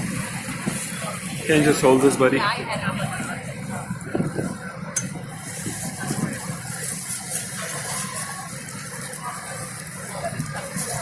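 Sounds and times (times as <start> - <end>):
boat engine low hum: 0.0 - 11.0
water rushing: 0.0 - 11.0.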